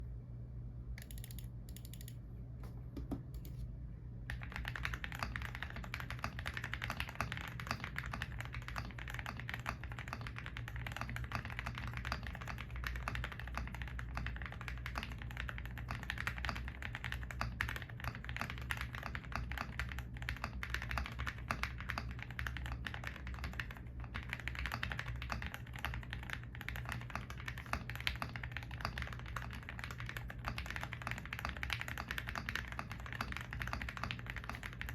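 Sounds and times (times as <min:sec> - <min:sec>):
fast typing on mechanical keyboard: 0:01.0 - 0:02.2, 0:04.3 - 0:34.9.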